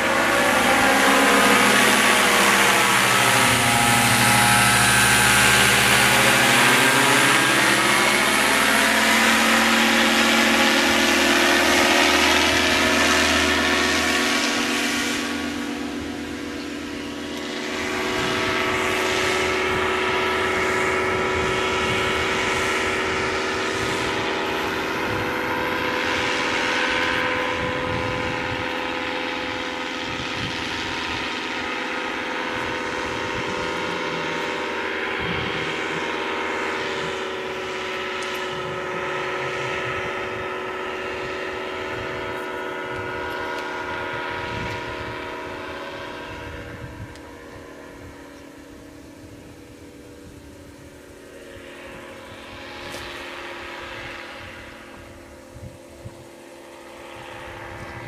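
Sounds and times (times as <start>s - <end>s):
paramotor engine droning overhead: 0.0s - 58.0s.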